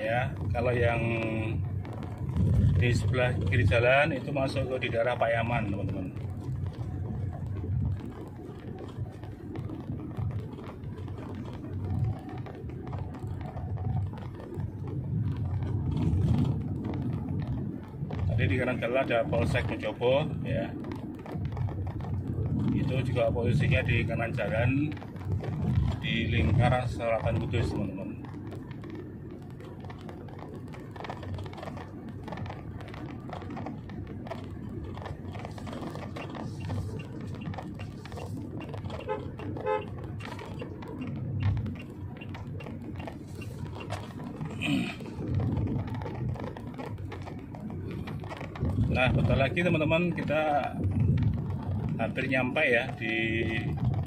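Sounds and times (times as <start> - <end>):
car driving on road: 0.0 - 54.0
faint irregular ticking: 0.0 - 54.0
tyre noise: 0.0 - 54.0.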